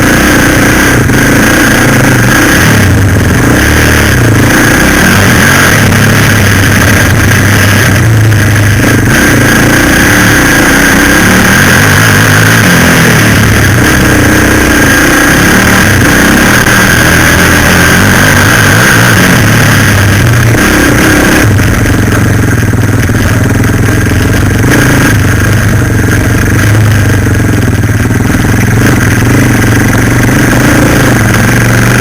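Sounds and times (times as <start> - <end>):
high whine: 0.0 - 32.0
quad bike engine revving: 0.0 - 32.0.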